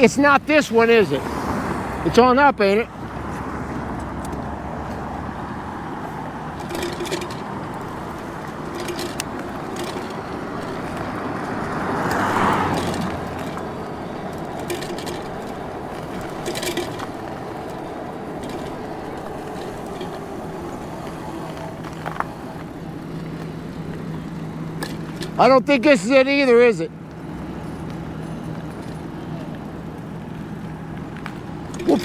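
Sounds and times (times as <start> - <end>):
road and wind noise: 0.0 - 32.0
vehicle passing by: 0.0 - 32.0.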